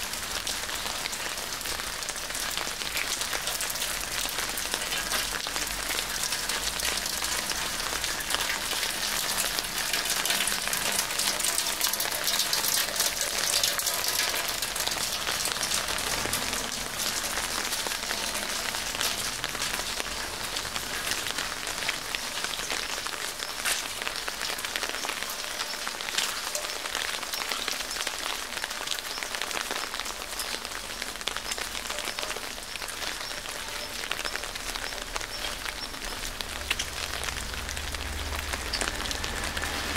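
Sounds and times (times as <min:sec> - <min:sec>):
raindrops tapping: 0:00.0 - 0:39.9
steady rain falling: 0:00.0 - 0:39.9.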